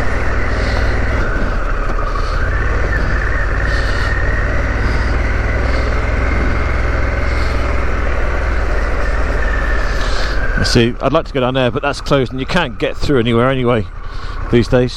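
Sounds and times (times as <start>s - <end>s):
motorcycle engine running: 0.0s - 14.9s
wind and road noise: 0.0s - 14.9s.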